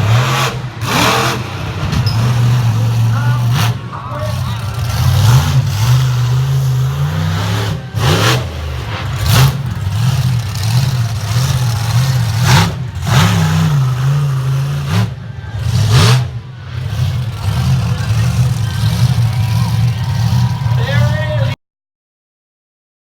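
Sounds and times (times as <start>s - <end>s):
loud engine bursts: 0.0s - 21.5s
truck engine revving: 0.0s - 21.5s.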